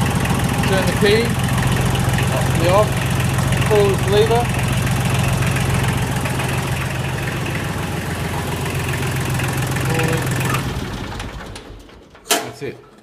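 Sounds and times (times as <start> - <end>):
diesel tractor engine idling: 0.0 - 12.2.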